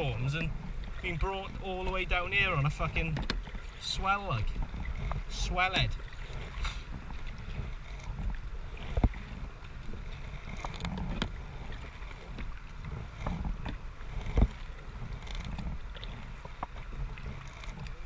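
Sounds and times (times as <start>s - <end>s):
water and wind rumbling: 0.0s - 18.0s.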